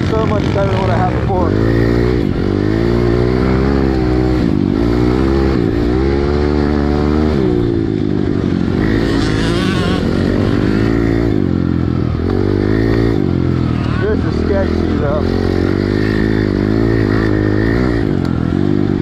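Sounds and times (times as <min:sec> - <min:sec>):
motorbike engine revving hard: 0:00.0 - 0:19.0.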